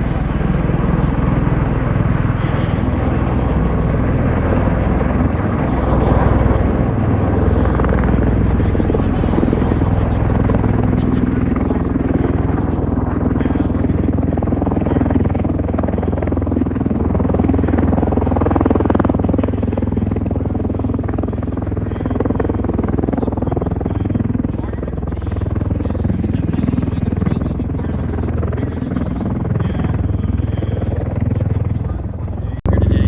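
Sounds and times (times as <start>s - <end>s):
aircraft rotors and engines rumbling: 0.0s - 33.0s.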